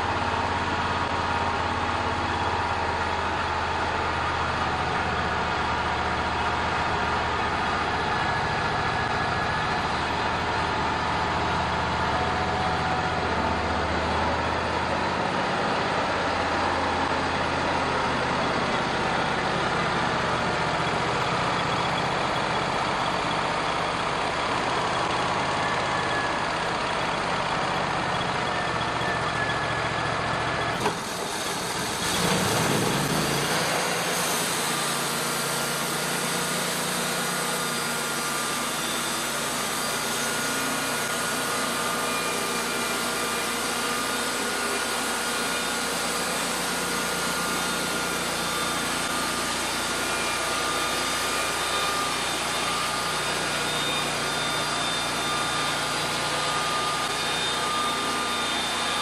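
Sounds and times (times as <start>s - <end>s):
band saw whine: 0.0s - 59.0s
sawmill engine humming: 0.0s - 59.0s.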